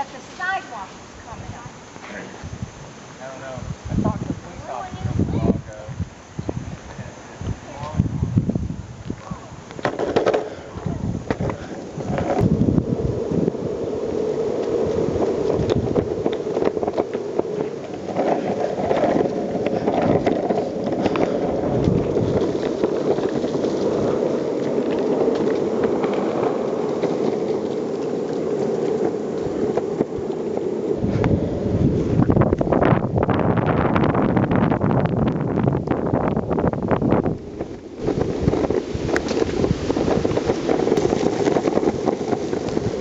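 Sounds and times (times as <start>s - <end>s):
longboard wheels rolling on pavement: 0.0s - 43.0s.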